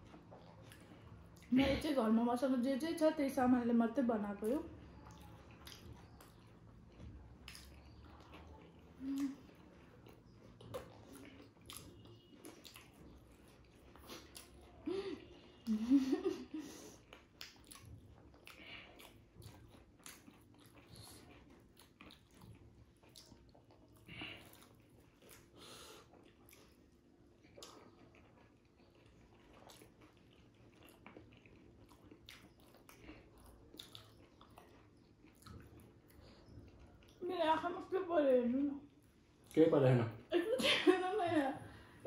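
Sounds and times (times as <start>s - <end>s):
chewing and crunching: 0.0s - 1.8s, 3.6s - 15.7s, 16.9s - 38.0s.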